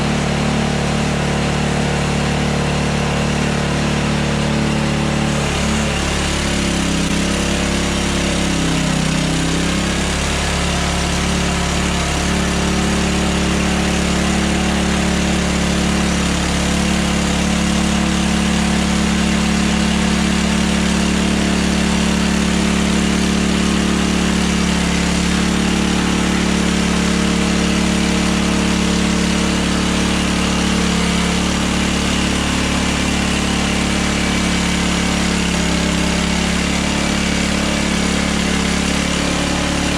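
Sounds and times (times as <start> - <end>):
band saw cutting log: 0.0 - 39.9
sawmill engine running: 0.0 - 39.9.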